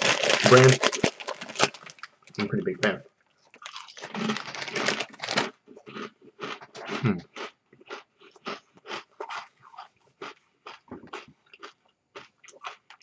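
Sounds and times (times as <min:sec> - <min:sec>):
chips crunching and chewing: 0:00.0 - 0:02.2, 0:03.4 - 0:13.0.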